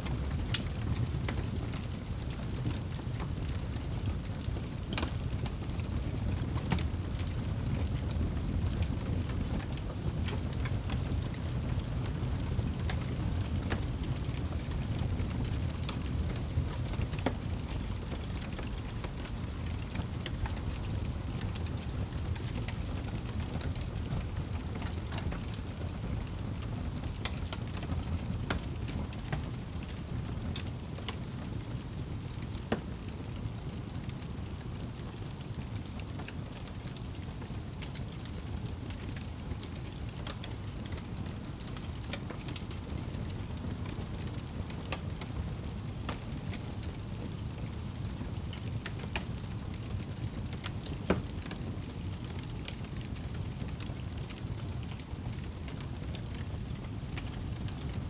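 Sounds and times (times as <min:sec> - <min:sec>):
low rumble of flames: 0:00.0 - 0:58.0
wood fire popping: 0:00.0 - 0:58.0.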